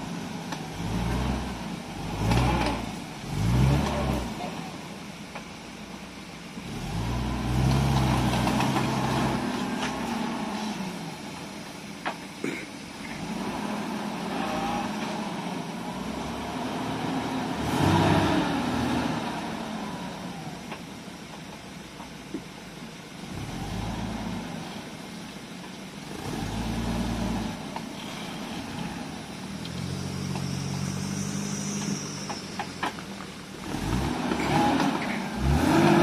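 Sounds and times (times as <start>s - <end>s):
off-road vehicle engine revving: 0.0s - 5.4s, 6.4s - 20.8s, 23.0s - 36.0s.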